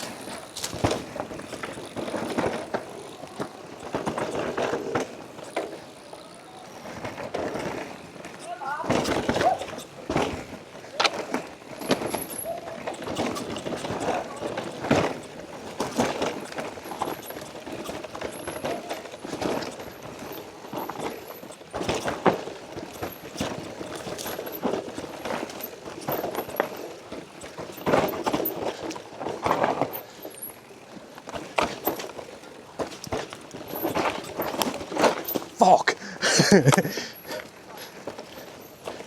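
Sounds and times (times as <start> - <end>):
bike rattling over rocks: 0.0 - 39.0.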